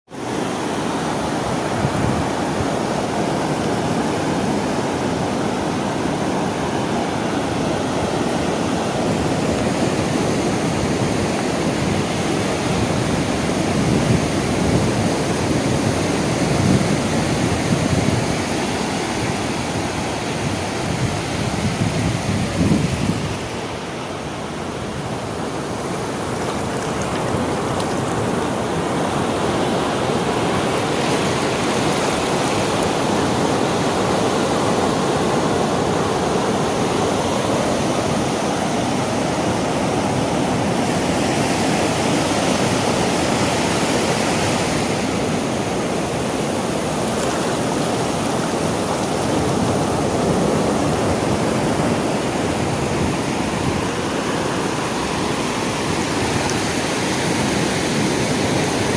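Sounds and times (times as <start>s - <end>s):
sea waves washing ashore: 0.1s - 58.9s.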